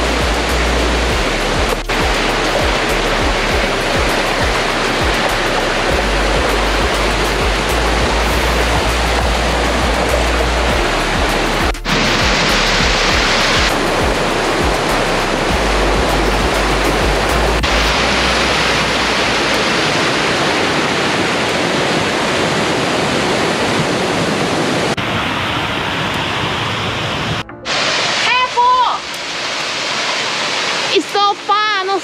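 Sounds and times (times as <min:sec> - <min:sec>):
wind rumble on microphone: 0:00.0 - 0:27.4
stream water rushing over rock: 0:00.0 - 0:32.0.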